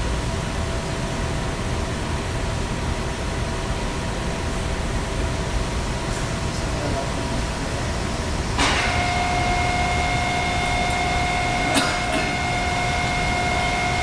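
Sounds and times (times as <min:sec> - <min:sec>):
faint steady hum tones: 0:00.0 - 0:14.0
machine shop drone: 0:00.0 - 0:14.0.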